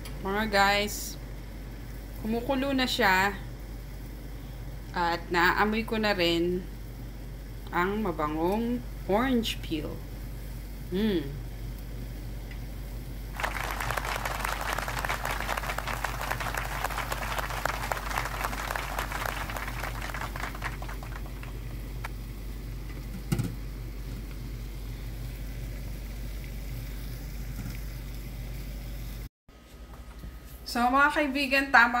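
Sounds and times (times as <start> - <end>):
water boiling in a saucepan: 0.7 - 29.3.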